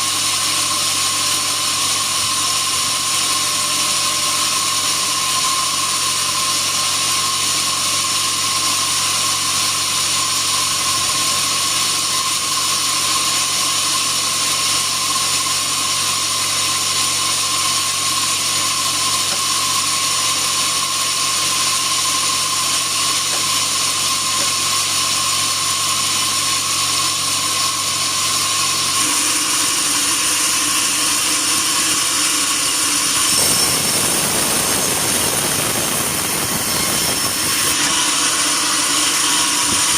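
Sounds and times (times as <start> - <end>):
bandsaw sawing wood: 0.0 - 39.9.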